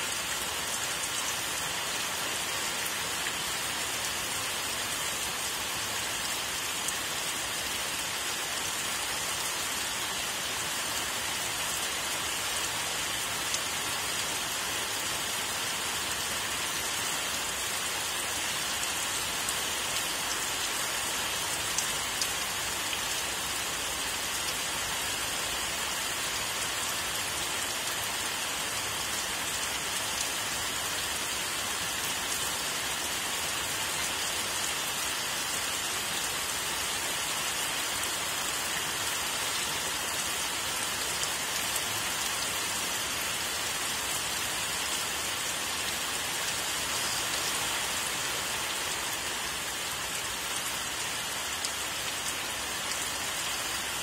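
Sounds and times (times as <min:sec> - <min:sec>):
steady rainfall hiss: 0:00.0 - 0:54.0.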